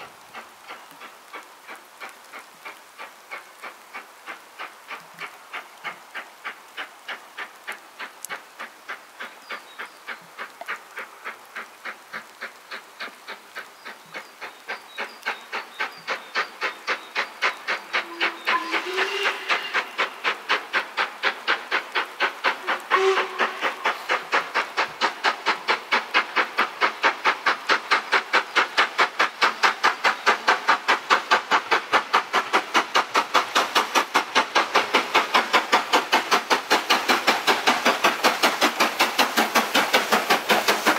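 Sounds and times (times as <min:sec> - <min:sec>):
steam locomotive exhaust beats: 0:00.0 - 0:40.9.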